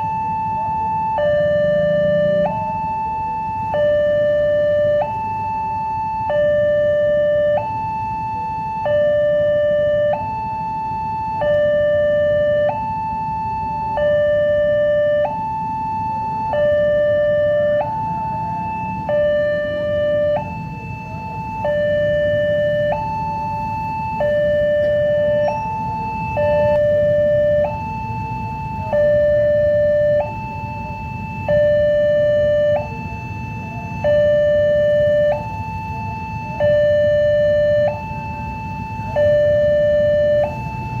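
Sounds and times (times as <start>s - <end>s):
low rumble of traffic: 0.0s - 41.0s
two-tone crossing alarm: 0.0s - 41.0s.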